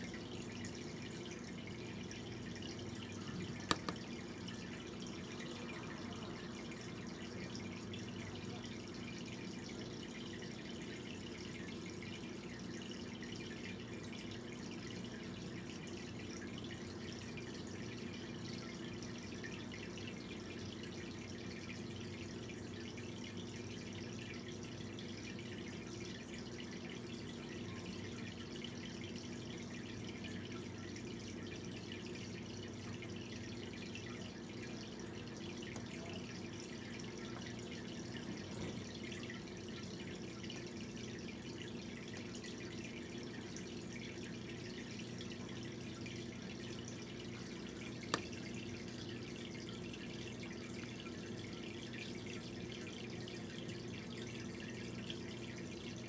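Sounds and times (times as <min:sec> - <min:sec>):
faint hum: 0:00.0 - 0:56.0.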